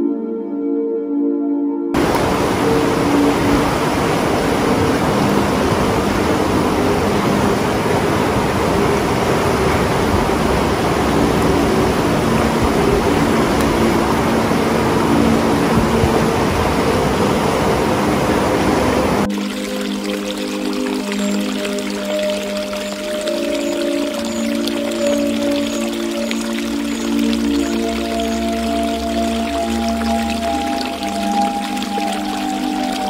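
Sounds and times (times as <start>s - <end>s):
faint sustained music: 0.0s - 33.0s
river rushing over rapids: 2.0s - 33.0s.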